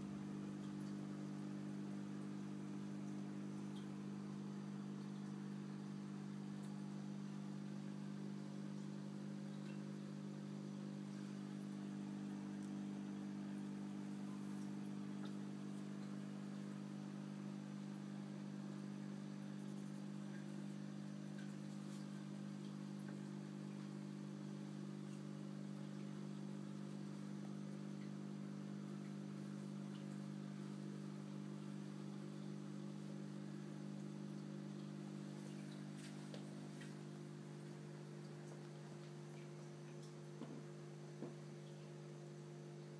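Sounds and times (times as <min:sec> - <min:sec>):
aquarium air pump humming: 0:00.0 - 0:42.9.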